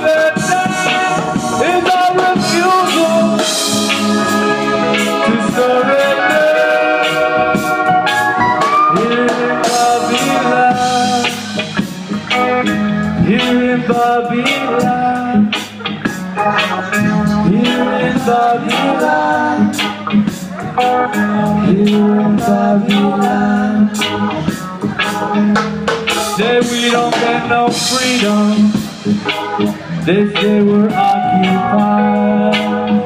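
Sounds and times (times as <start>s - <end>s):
bass line: 0.0s - 33.0s
drums keeping a steady beat: 0.0s - 33.0s
electric guitars: 0.0s - 33.0s
organ-toned keyboard: 0.0s - 33.0s.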